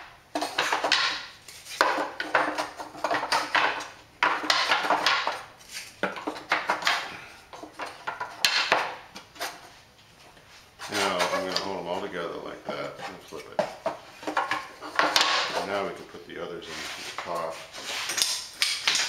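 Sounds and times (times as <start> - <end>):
wooden strips clattering and scraping: 0.0 - 19.0.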